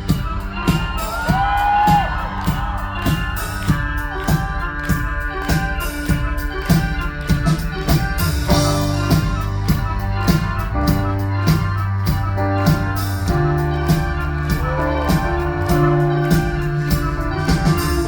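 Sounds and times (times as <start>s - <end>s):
held keyboard chords: 0.0s - 18.0s
steady drum beat: 0.0s - 18.0s.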